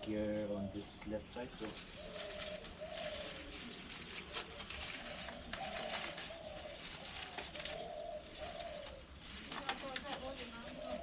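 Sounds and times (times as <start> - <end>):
pigeon cooing: 1.8 - 11.0.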